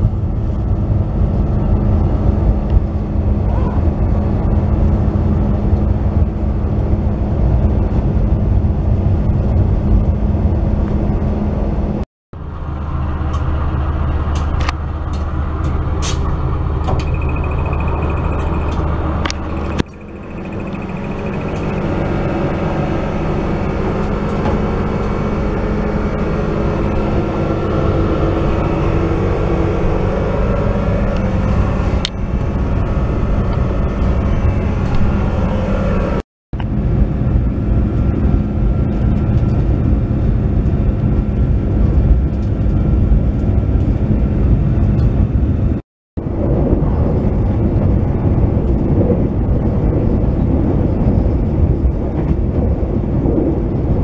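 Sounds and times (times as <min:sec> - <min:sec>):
train coach rumble and hum: 0:00.0 - 0:54.0.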